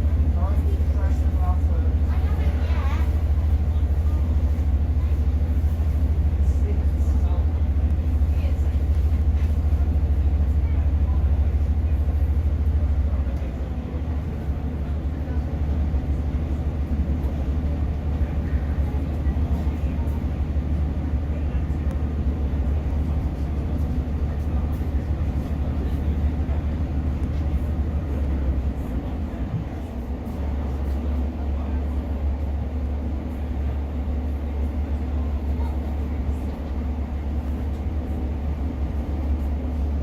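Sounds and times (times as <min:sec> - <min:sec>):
train engine drone: 0:00.0 - 0:40.0
wheels rumbling on rail: 0:00.0 - 0:40.0.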